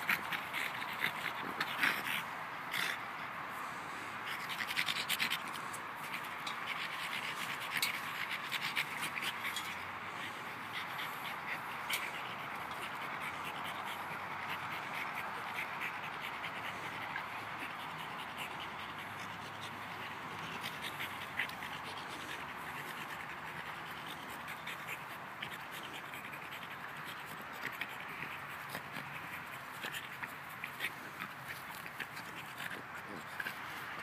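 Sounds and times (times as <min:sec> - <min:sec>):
dog snuffling and breathing: 0:00.0 - 0:34.0.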